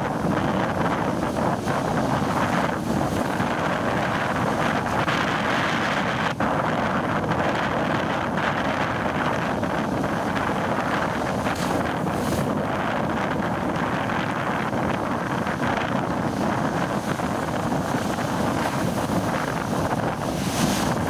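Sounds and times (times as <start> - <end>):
ocean waves breaking: 0.0 - 21.0
wind buffeting microphone: 0.0 - 21.0.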